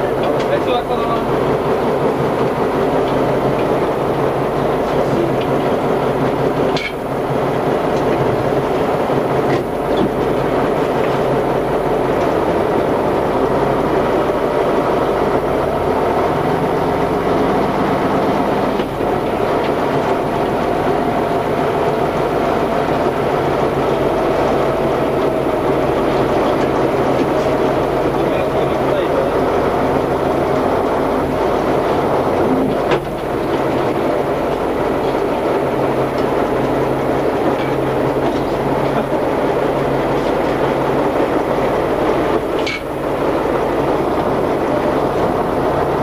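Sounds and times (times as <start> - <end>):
truck diesel engine running: 0.0 - 46.0.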